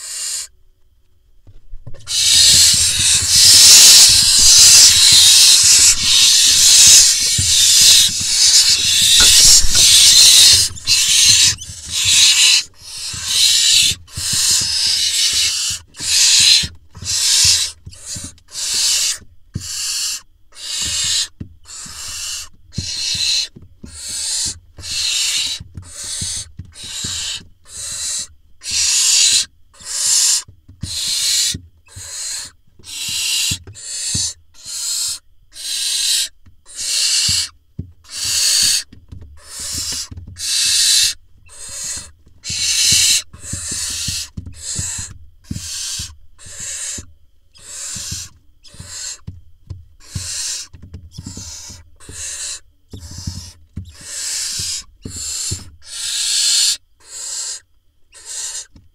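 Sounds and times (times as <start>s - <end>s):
owl chicks hissing: 0.0s - 0.6s, 2.0s - 49.3s, 50.0s - 58.8s.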